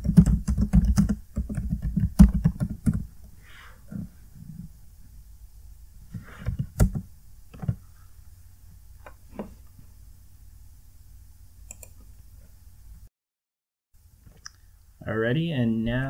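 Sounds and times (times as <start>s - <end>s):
low steady hum: 0.0s - 13.1s.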